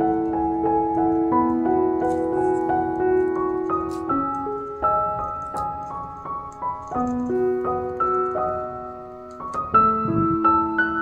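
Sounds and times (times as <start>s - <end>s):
slow solo piano melody: 0.0s - 11.0s.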